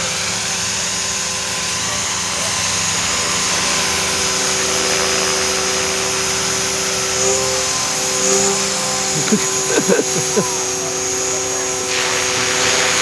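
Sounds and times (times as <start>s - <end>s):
electric motor whine: 0.0s - 13.0s
rotor blades rushing: 0.0s - 13.0s.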